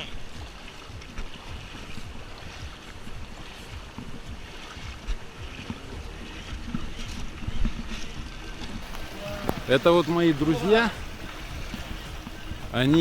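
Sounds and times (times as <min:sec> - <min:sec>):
river water running: 0:00.0 - 0:13.0
wind buffeting microphone: 0:00.2 - 0:13.0.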